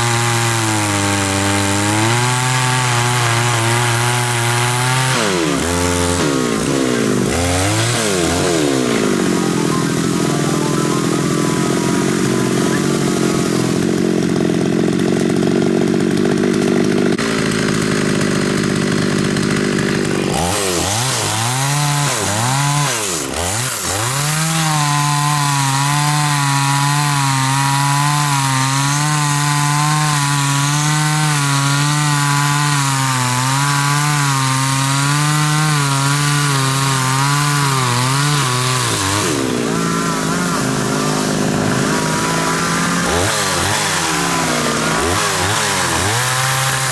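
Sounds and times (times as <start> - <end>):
chainsaw sawing through tree: 0.0 - 46.9.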